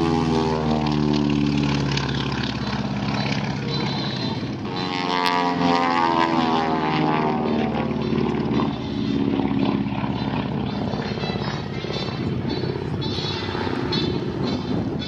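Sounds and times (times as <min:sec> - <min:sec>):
propeller airplane flying past: 0:00.0 - 0:15.0.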